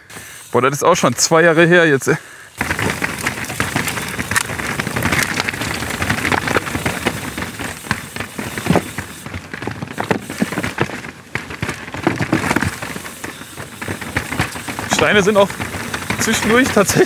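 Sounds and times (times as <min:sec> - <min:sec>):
bike rattling and knocking: 0:00.0 - 0:17.0
bike tyres crunching on stones: 0:00.0 - 0:17.0.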